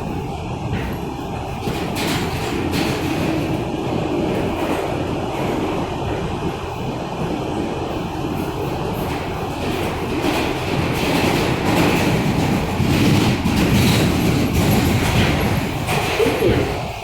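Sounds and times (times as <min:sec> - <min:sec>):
subway train rumble: 0:00.0 - 0:17.0
wheels clacking over rail joints: 0:00.0 - 0:17.0.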